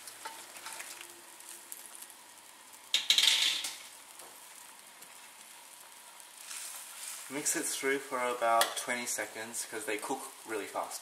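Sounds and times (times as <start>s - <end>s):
broth bubbling in a wok: 0.0s - 11.0s.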